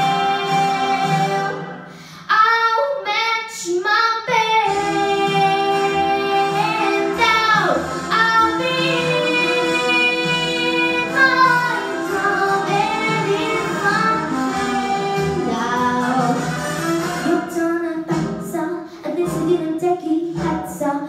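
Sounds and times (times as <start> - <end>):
musical accompaniment: 0.0 - 2.3, 4.3 - 21.0
girl singing into microphone: 0.0 - 16.5, 17.2 - 21.0.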